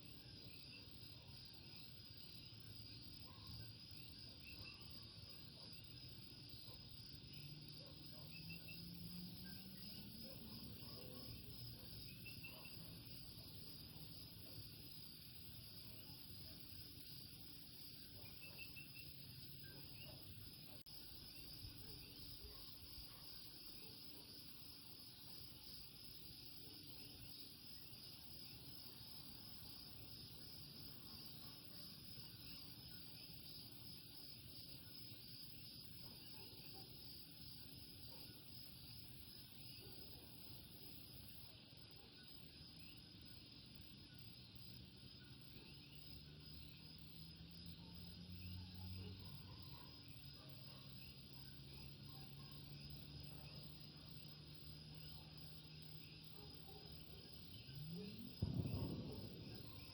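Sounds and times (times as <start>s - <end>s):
trilling insects: 0.0s - 59.9s.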